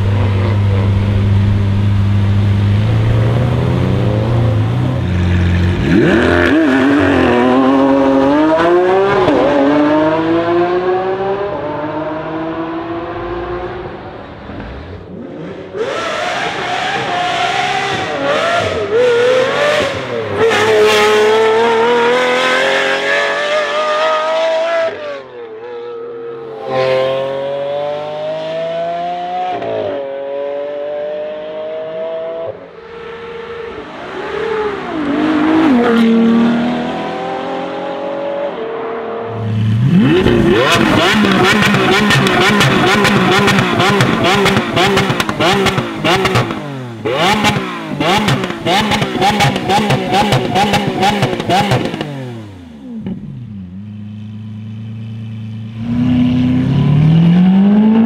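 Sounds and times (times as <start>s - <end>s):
sports car accelerating: 0.0s - 58.0s.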